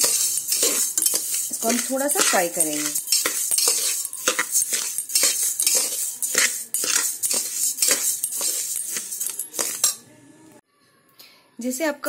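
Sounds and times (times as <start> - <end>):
grains rattling against pot: 0.0 - 10.0
metal spatula stirring dry grains: 0.0 - 10.0.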